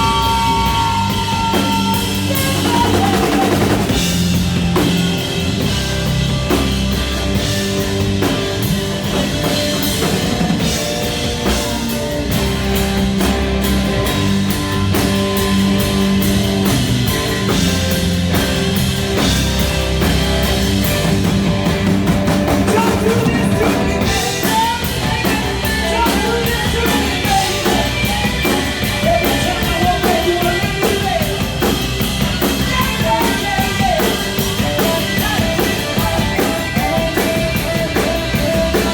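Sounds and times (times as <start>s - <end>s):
bass guitar: 0.0s - 38.9s
drum kit beat: 0.0s - 38.9s
electric guitar: 0.0s - 38.9s
wavering lead guitar: 0.0s - 38.9s.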